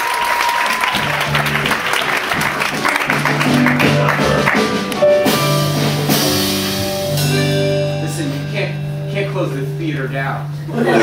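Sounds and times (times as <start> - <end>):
drums: 0.0 - 10.7
guitar: 1.0 - 11.0.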